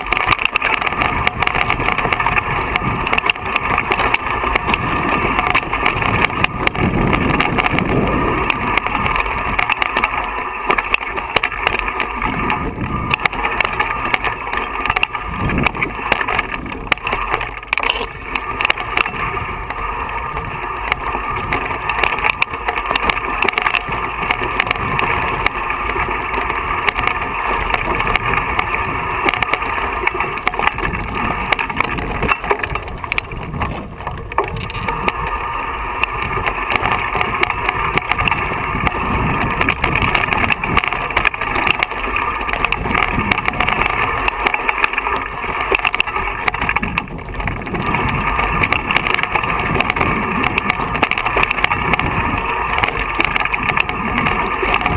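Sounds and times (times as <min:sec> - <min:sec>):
mountain bike rattling: 0:00.0 - 0:54.9
tyres crunching on loose stones: 0:00.0 - 0:54.9.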